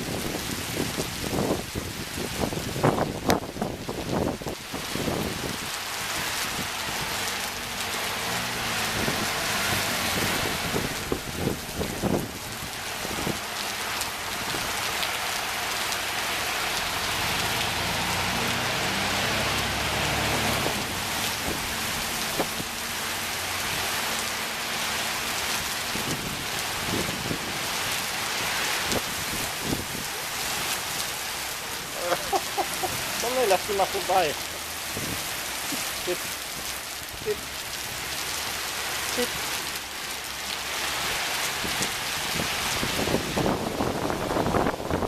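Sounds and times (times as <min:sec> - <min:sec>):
heavy rain pouring: 0:00.0 - 0:45.0
sharp raindrops striking nearby: 0:00.0 - 0:45.0.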